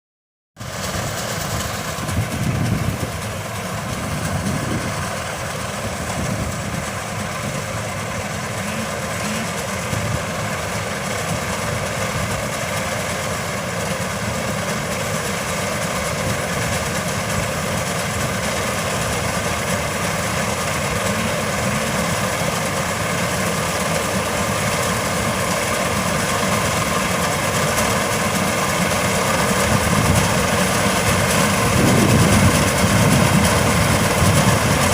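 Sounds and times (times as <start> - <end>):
combine harvester drone: 0.6 - 34.9
machinery whine: 0.6 - 34.9.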